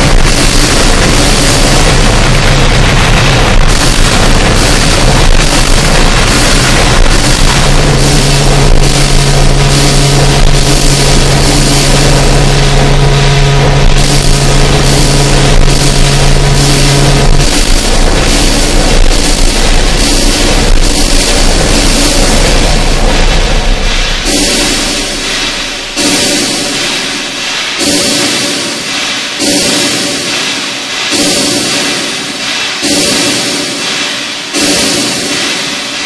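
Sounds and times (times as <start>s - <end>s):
distorted hissing noise music: 0.0s - 36.0s
low drone: 0.0s - 36.0s.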